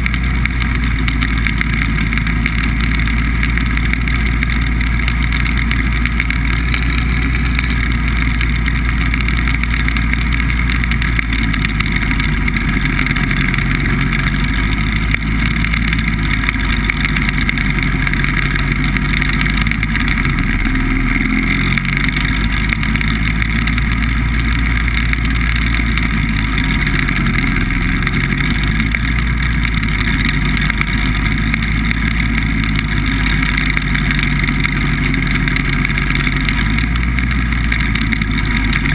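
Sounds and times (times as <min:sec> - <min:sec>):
hovercraft engine and fans: 0:00.0 - 0:38.9.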